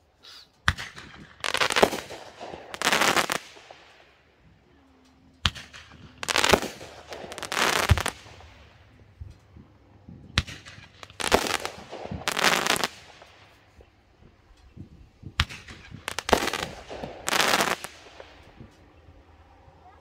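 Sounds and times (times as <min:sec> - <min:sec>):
firework reports: 0:00.2 - 0:04.7, 0:05.4 - 0:19.0
fireworks crackling pops: 0:00.2 - 0:04.7, 0:05.3 - 0:19.0.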